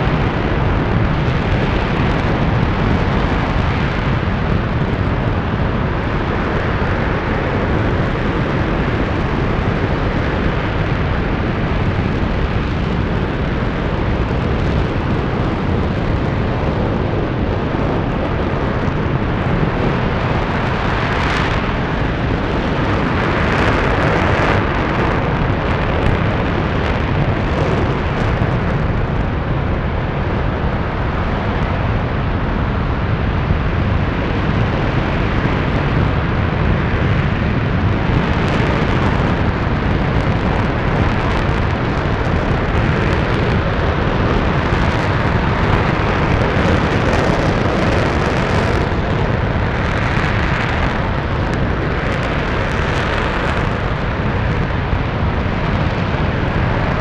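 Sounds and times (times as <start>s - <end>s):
rocket engine roaring: 0.0s - 57.0s.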